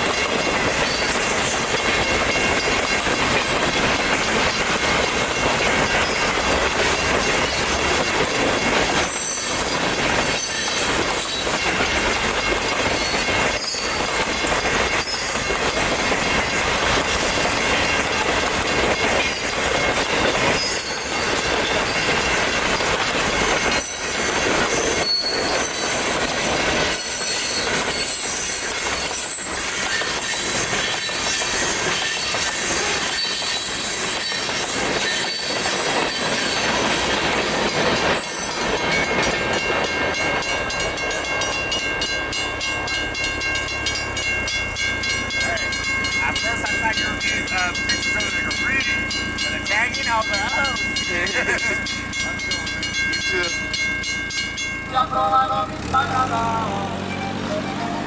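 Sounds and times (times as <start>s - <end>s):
freight cars rolling: 0.0s - 58.0s
wheels clacking over rails: 0.0s - 58.0s
wheels squealing: 5.4s - 58.0s.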